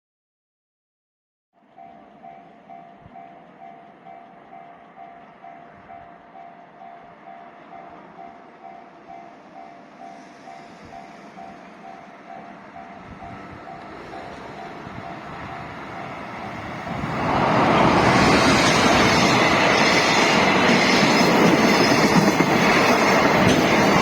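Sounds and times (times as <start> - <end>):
level-crossing warning bell: 1.6 - 24.0
train rail noise: 1.6 - 24.0.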